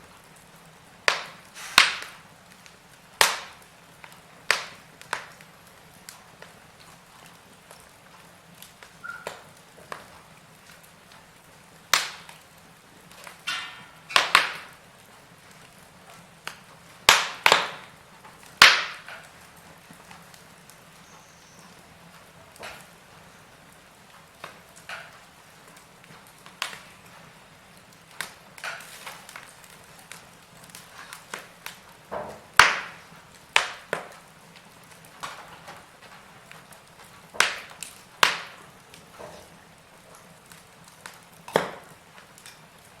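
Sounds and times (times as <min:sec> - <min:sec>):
faint steady hiss: 0:00.0 - 0:43.0
wood fire crackling: 0:00.0 - 0:43.0.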